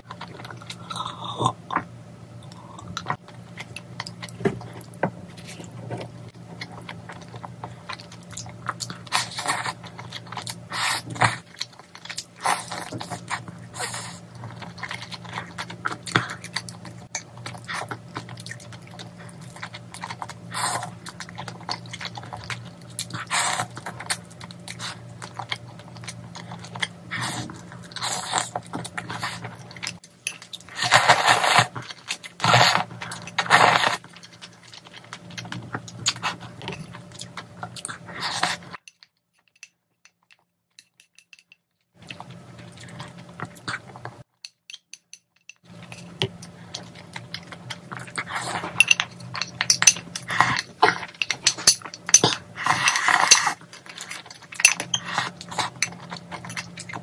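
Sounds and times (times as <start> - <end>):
chewing food: 0.0 - 39.1, 42.0 - 44.3, 45.6 - 57.0.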